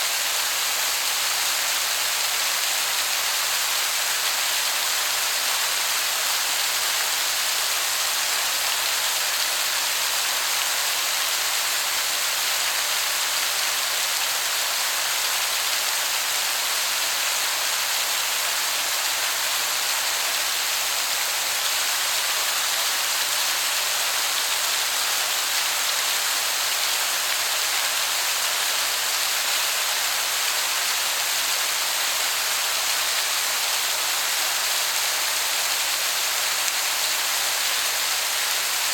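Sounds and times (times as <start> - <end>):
distant waterfall hiss: 0.0 - 38.9.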